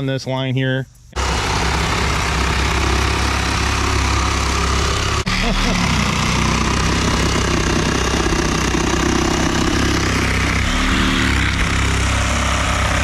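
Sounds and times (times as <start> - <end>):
reciprocating saw cutting: 1.2 - 13.0.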